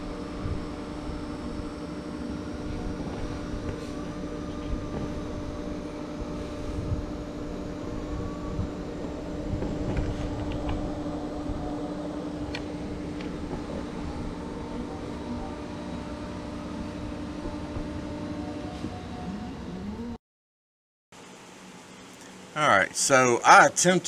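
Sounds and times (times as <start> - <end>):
mechanical hum: 0.0 - 20.2, 21.2 - 24.0.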